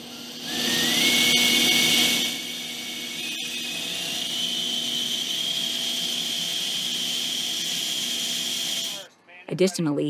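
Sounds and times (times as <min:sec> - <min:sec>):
high-pitched machine whine: 0:00.0 - 0:09.2.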